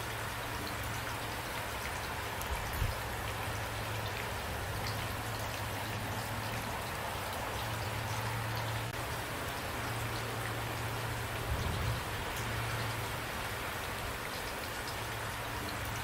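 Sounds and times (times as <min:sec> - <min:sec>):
raindrops ticking close by: 0:00.0 - 0:16.0
steady rain falling: 0:00.0 - 0:16.0.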